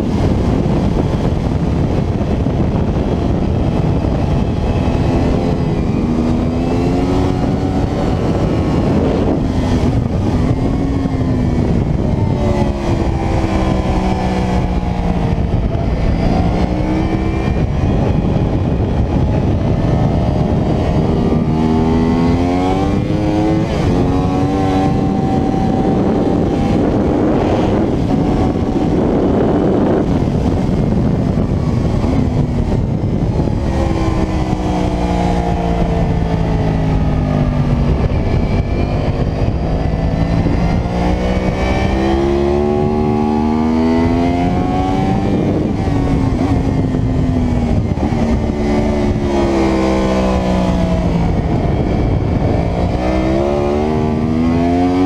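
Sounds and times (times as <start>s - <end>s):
motorcycle engine at racing speed: 0.0s - 55.0s
wind rushing on microphone: 0.0s - 55.0s.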